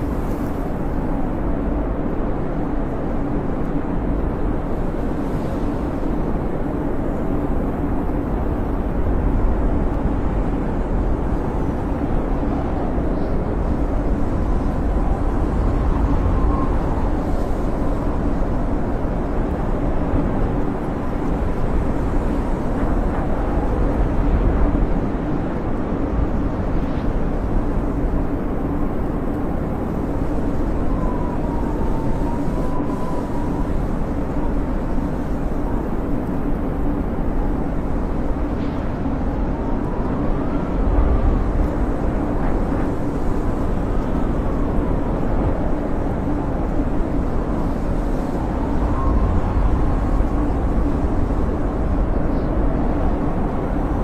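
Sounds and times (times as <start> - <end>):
faint wavering whistling wind: 0.0 - 54.0
snowstorm wind rushing: 0.0 - 54.0.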